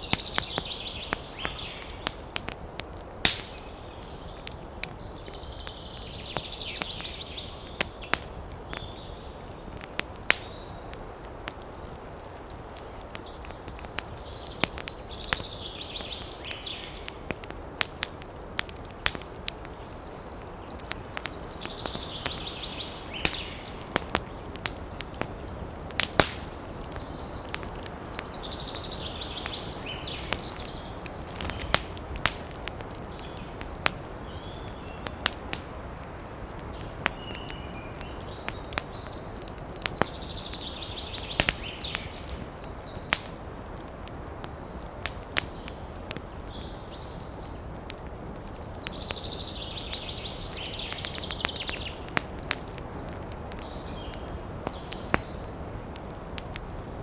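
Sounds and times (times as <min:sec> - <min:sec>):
campfire crackling: 0:00.0 - 0:57.0
wind in trees: 0:00.0 - 0:57.0.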